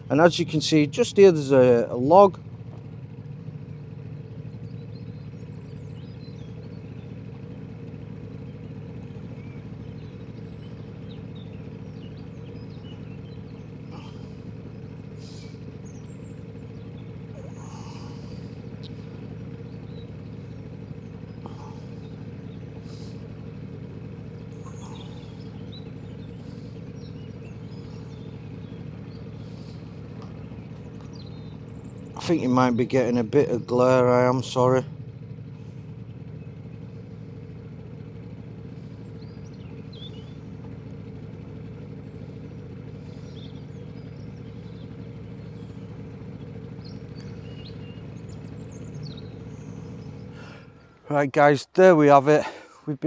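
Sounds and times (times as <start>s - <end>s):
birds chirping: 0.0s - 53.0s
outboard motor running: 0.0s - 53.0s.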